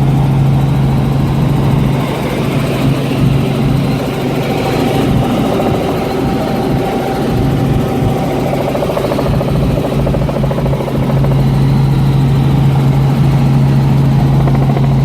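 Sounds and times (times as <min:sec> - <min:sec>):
helicopter rotor flutter: 0:00.0 - 0:15.0.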